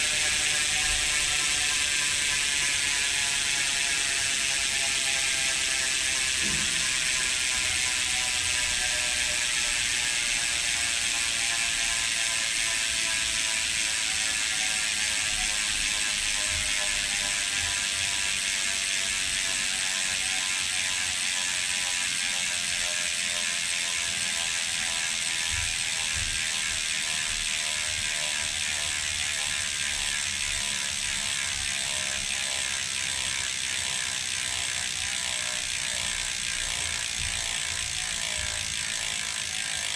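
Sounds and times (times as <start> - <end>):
bicycle hub freewheel buzzing: 0.0 - 39.9.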